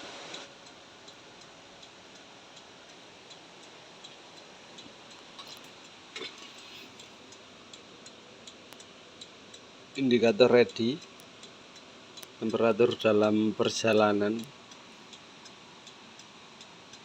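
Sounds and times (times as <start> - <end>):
faint hiss: 0.0 - 17.0
flasher relay ticking: 0.3 - 17.0.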